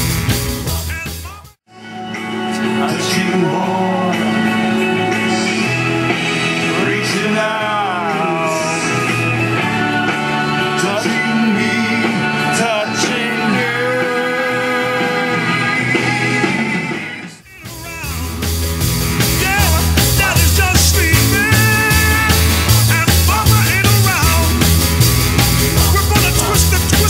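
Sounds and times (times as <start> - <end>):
rock song with singing: 0.0 - 27.0
rock track with heavy bass beat: 0.0 - 27.0.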